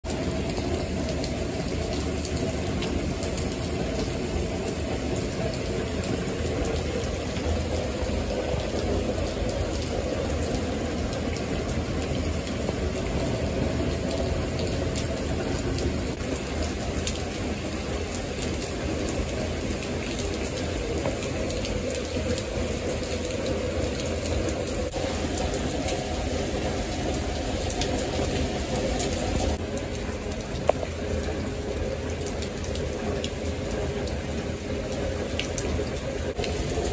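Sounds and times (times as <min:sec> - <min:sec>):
heavy rain on paving: 0:00.0 - 0:36.9
raindrops ticking: 0:00.0 - 0:36.9.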